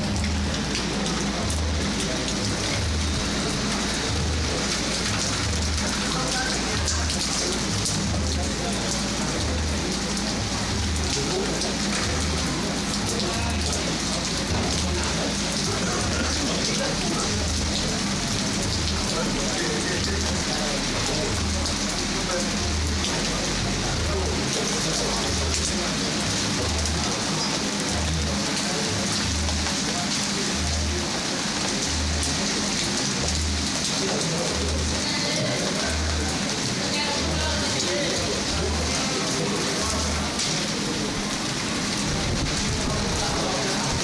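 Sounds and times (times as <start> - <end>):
rain falling on street and car: 0.0 - 44.0.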